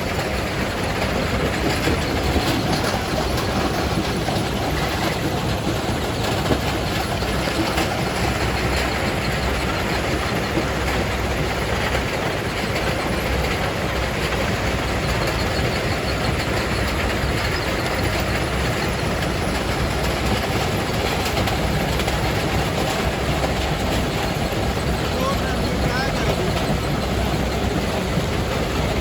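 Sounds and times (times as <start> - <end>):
rock crusher rumbling: 0.0 - 29.0.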